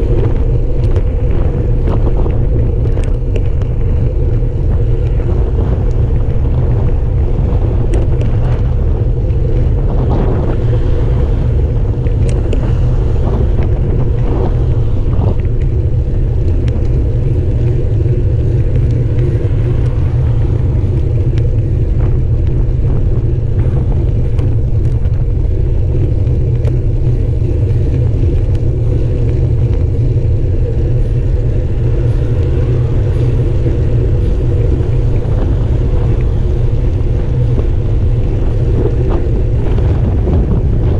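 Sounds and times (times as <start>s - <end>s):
road vibration: 0.0s - 40.9s
wind rumble on microphone: 0.0s - 40.9s.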